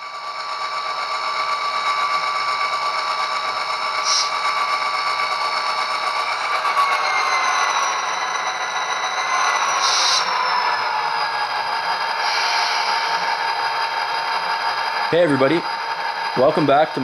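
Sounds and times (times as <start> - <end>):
diesel engine sound effect: 0.0 - 17.0
model train motor whirring: 0.0 - 17.0.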